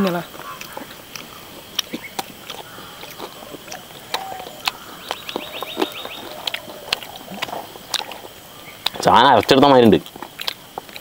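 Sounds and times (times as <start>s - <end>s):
rapid chirping trill: 0.1s - 10.7s
person chewing crunchy chicken: 0.3s - 9.2s, 10.0s - 11.0s.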